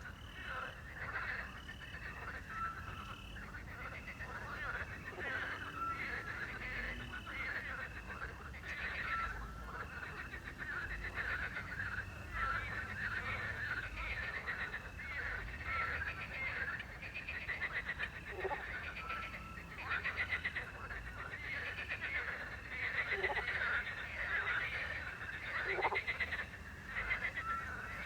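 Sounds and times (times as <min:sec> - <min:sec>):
frogs croaking and trilling: 0:00.0 - 0:28.0.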